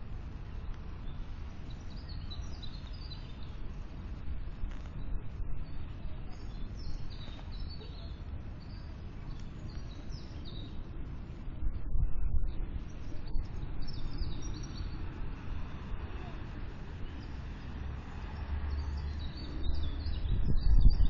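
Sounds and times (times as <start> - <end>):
small birds chirping: 0.0 - 11.4, 12.6 - 21.0
low background rumble: 0.0 - 21.0.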